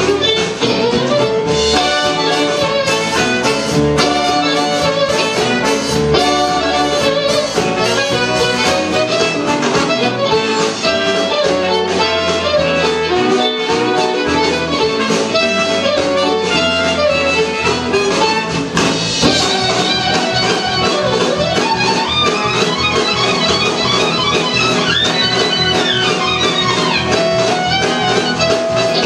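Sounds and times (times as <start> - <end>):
fiddle played fast: 0.0 - 29.0
live band: 0.0 - 29.0
steady drum beat: 0.0 - 29.0.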